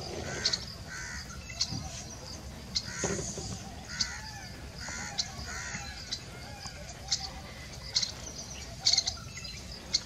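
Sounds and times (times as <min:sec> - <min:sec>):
birds cawing: 0:00.0 - 0:01.8, 0:02.7 - 0:10.0.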